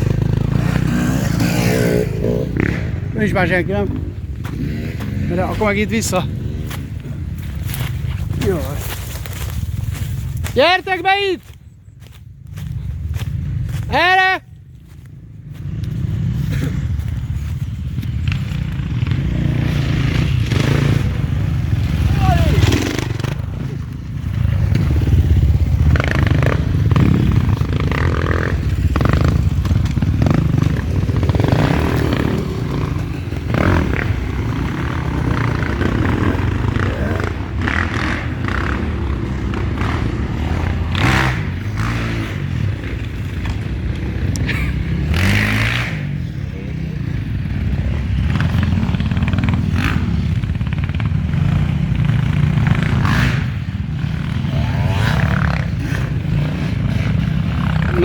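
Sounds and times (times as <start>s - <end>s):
motorcycle engine revving: 0.0s - 10.5s, 14.8s - 58.0s.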